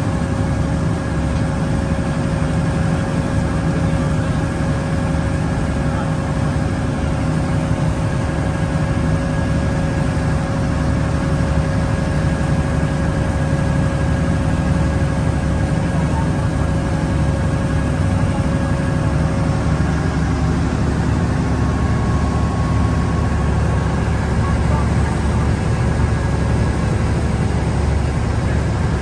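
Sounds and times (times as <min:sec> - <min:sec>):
ferry engine droning: 0:00.0 - 0:29.0.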